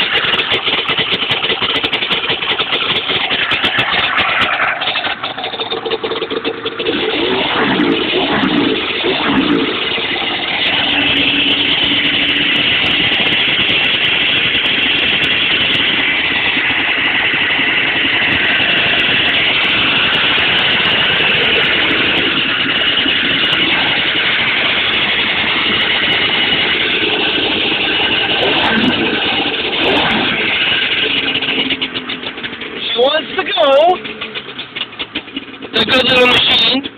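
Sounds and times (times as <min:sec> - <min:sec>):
engine throttle revs: 0:00.0 - 0:36.9
snowmobile engine idling: 0:00.0 - 0:36.9.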